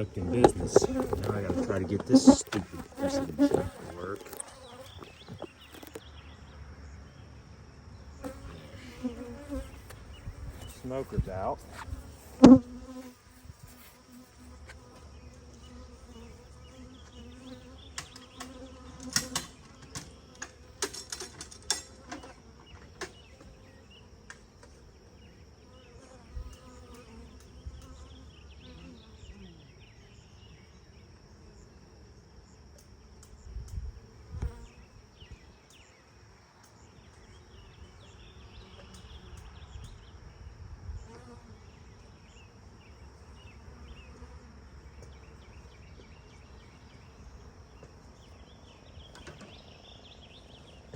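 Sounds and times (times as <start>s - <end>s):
honeybees buzzing: 0.0s - 7.2s, 7.9s - 36.0s, 36.8s - 50.9s.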